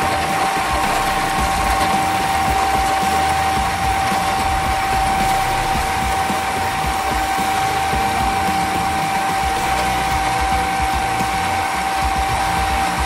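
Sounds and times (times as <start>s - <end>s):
electric motor whining: 0.0s - 13.0s
hacksaw blade sawing metal: 0.0s - 13.0s.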